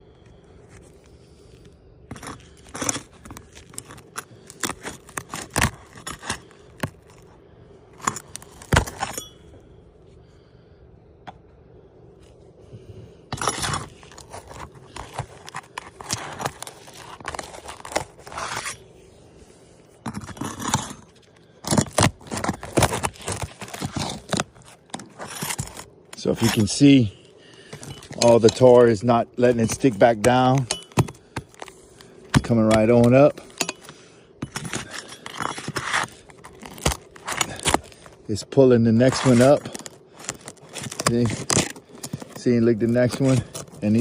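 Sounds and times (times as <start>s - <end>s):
roof shingles scraping and tearing: 0.7s - 7.3s, 8.0s - 9.2s, 13.4s - 18.9s, 20.1s - 44.0s.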